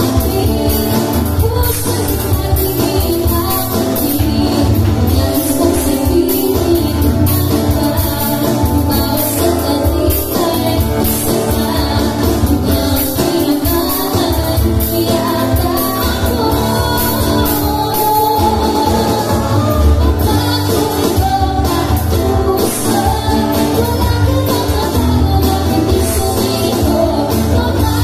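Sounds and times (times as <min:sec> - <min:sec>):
man singing along: 0:00.0 - 0:28.0
strummed acoustic guitar: 0:00.0 - 0:28.0
woman singing lead: 0:00.0 - 0:28.0.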